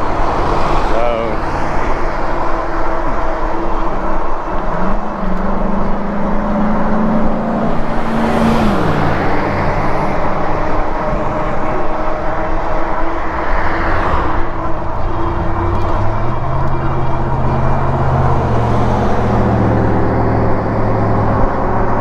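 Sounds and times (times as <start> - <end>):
road noise: 0.0 - 22.0
wind rush: 0.0 - 22.0.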